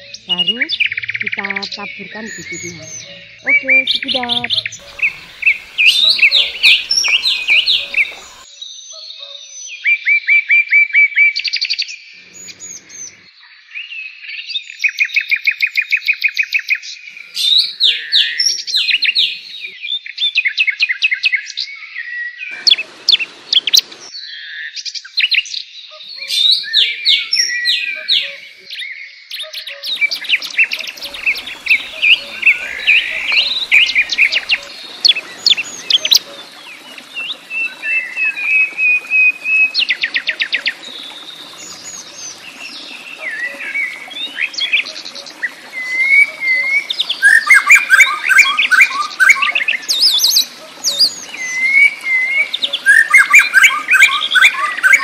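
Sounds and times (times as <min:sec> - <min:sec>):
songbirds singing: 0:00.0 - 0:09.8, 0:12.3 - 0:55.0.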